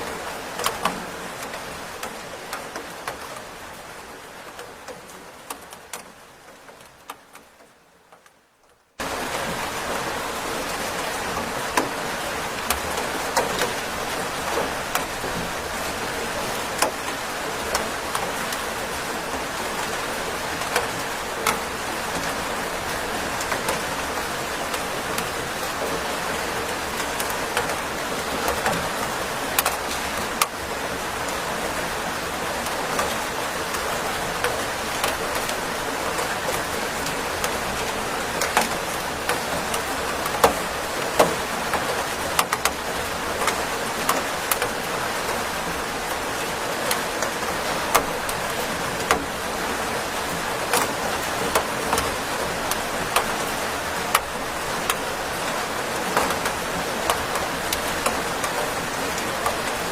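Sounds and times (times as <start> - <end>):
steady rain: 0.0 - 59.9
raindrops ticking sharply: 4.5 - 59.9.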